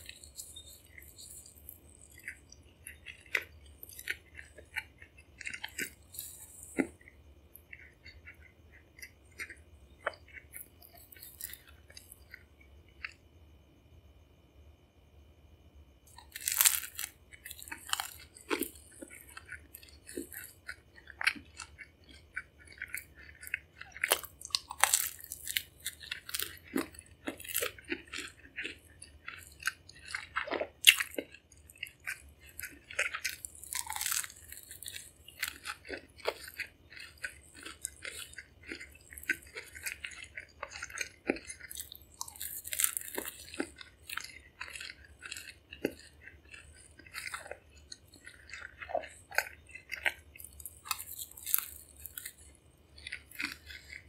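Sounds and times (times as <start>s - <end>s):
chewing and crunching: 0.0s - 14.2s, 15.5s - 54.0s.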